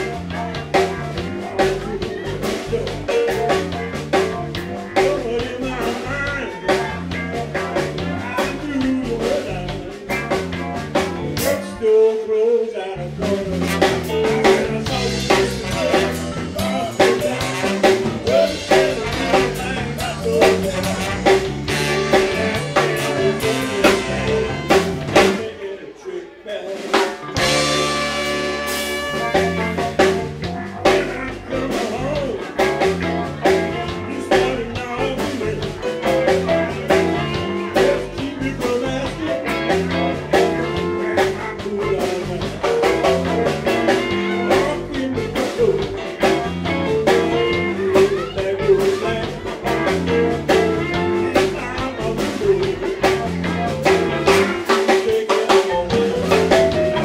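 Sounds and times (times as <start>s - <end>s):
drum kit beat: 0.0s - 12.0s, 13.1s - 25.6s, 26.6s - 57.0s
blues band playing: 0.0s - 57.0s.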